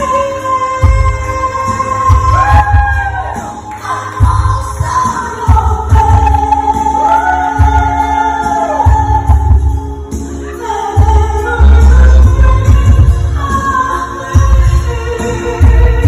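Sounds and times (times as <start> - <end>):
amplified pop ballad music: 0.0 - 16.0
woman singing into microphone: 0.0 - 16.0.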